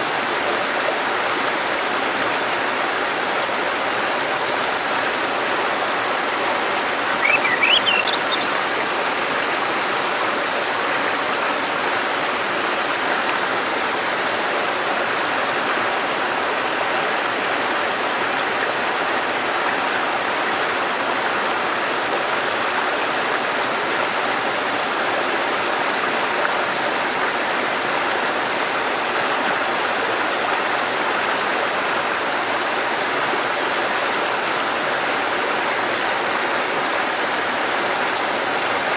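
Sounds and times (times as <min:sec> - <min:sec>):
river babbling over stones: 0:00.0 - 0:38.9.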